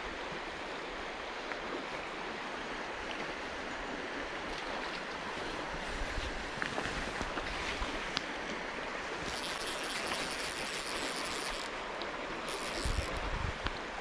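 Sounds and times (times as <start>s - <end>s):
stream running over rocks: 0.0s - 14.0s.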